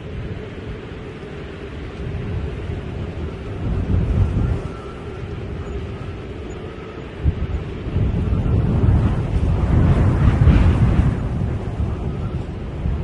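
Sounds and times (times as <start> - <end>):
wind blowing on microphone: 0.0 - 13.0.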